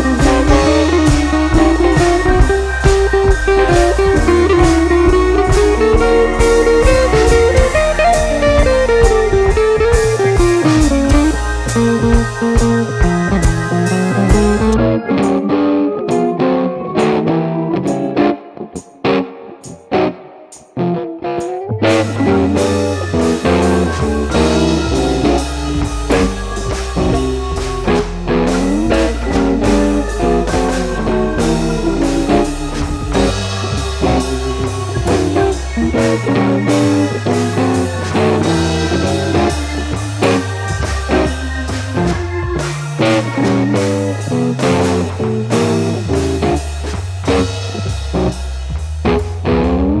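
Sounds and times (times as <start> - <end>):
steady drum beat: 0.0 - 14.8, 21.8 - 49.6
bass line: 0.0 - 18.0, 21.7 - 50.0
guitar: 0.0 - 50.0.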